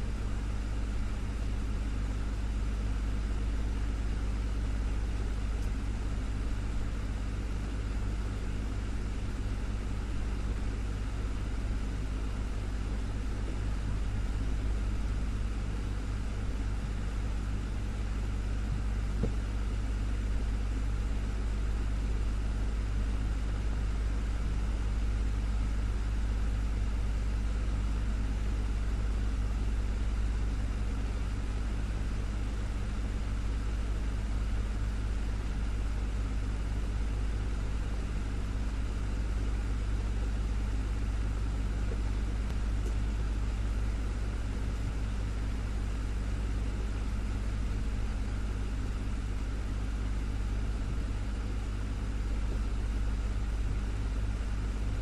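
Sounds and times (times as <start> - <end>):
desktop fan running: 0.0 - 55.0.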